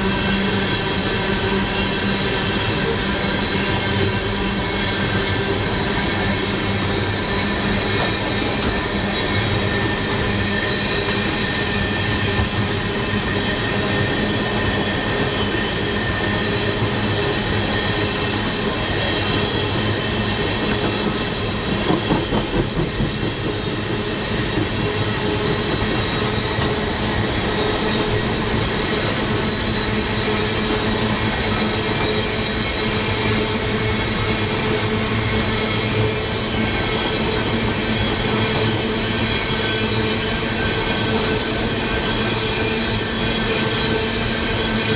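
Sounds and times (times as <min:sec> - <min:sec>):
freight train wheels on rails: 0:00.0 - 0:44.9
train wheel clacks: 0:00.0 - 0:44.9.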